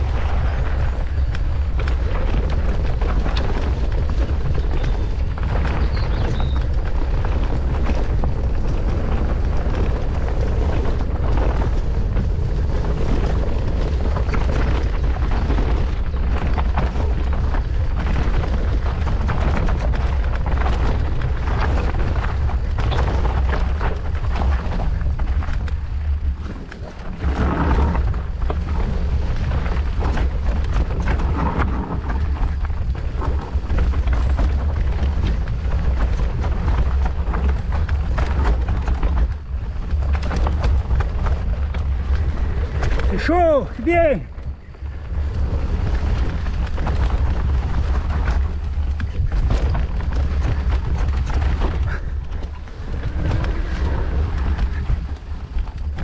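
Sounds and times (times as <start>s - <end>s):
bike clicks and knocks on stones: 0.0s - 56.0s
bike tyres crunching: 0.0s - 56.0s
wind buffeting microphone: 0.0s - 56.0s.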